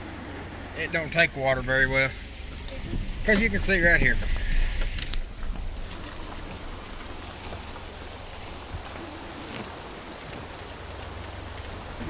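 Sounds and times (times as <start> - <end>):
vehicle rumble on wet road: 0.0 - 12.0.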